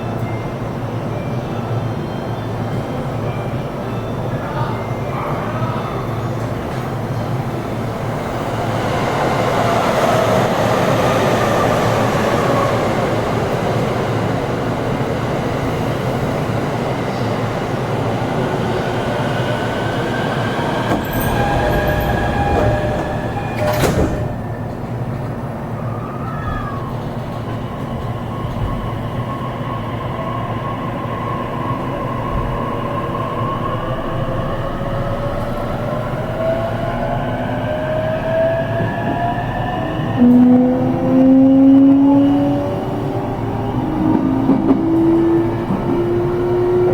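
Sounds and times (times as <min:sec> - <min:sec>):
train wheels rumbling on rail: 0:05.4 - 0:46.9.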